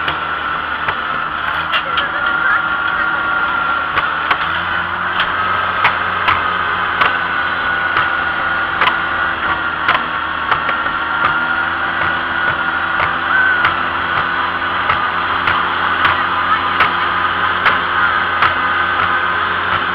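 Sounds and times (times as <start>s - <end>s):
high whine: 0.0s - 19.9s
tractor engine running: 0.0s - 19.9s.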